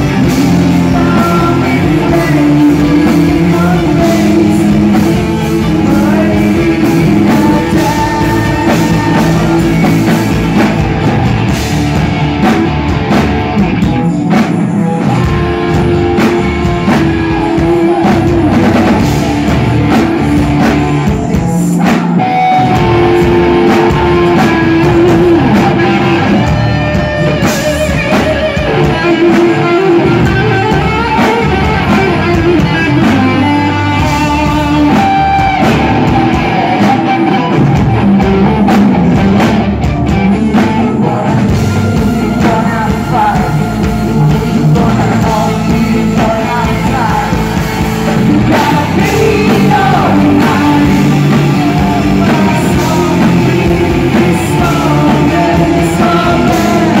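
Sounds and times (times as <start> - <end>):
woman singing lead vocals: 0.0 - 11.6, 13.9 - 57.0
drums: 0.0 - 57.0
electric guitar: 0.0 - 57.0
gothic metal band playing: 0.0 - 57.0.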